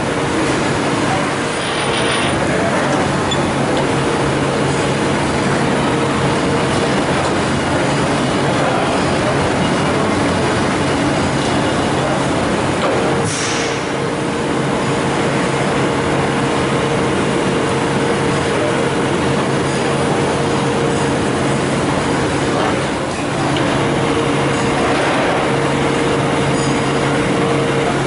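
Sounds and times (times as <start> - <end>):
lathe running: 0.0 - 13.2, 13.9 - 28.0
steady hum: 0.0 - 28.0.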